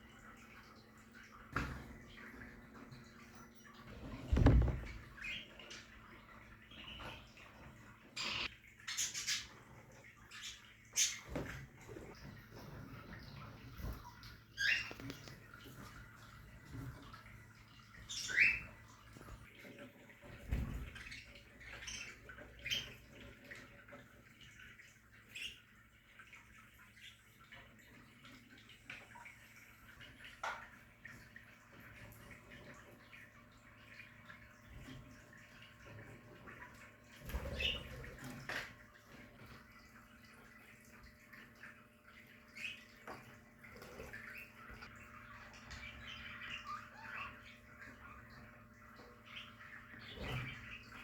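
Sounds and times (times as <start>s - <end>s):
bird chirps and warbles: 0.0s - 51.0s.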